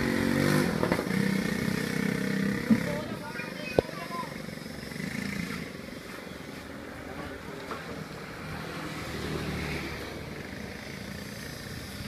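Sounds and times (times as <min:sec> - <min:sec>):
traffic engine hum: 0:00.0 - 0:12.0.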